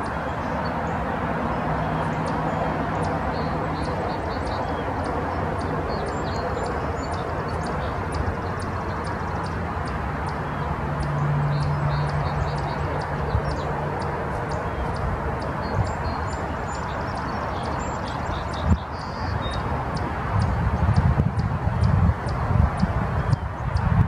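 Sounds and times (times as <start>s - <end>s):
rushing background noise: 0.0s - 24.0s.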